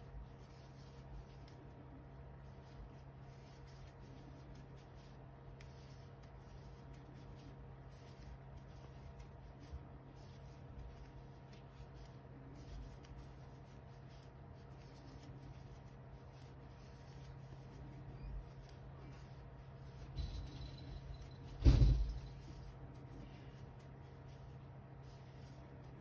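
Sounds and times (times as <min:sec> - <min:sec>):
crochet hook rustling yarn: 0:00.0 - 0:26.0.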